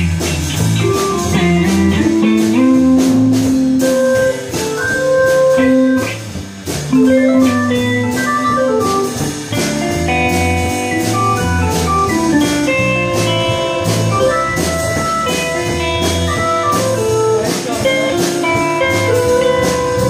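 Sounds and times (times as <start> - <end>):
bass line: 0.0 - 20.0
blues guitar melody: 0.0 - 20.0
drum kit strokes: 0.0 - 20.0
keyboard: 0.0 - 20.0.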